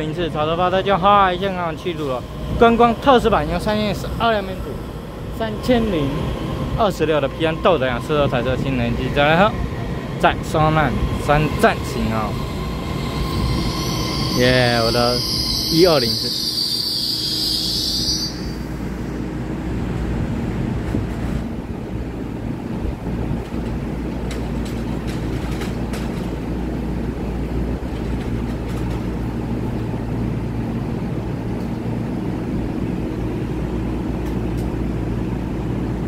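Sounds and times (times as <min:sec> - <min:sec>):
electric train humming and rumbling: 0:00.0 - 0:36.0.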